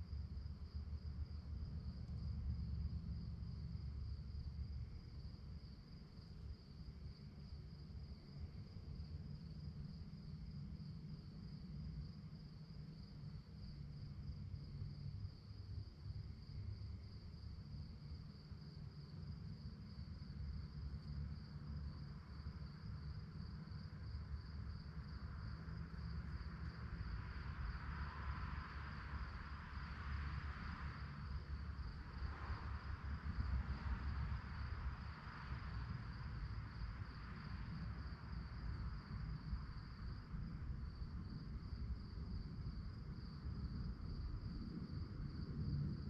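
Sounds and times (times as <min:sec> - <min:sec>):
crickets chirping: 0:00.0 - 0:46.0
low background rumble: 0:00.0 - 0:46.0.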